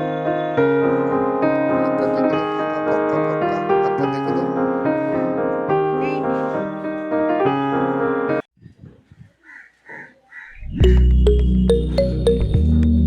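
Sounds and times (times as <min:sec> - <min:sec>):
piano music: 0:00.0 - 0:08.5, 0:10.8 - 0:13.0.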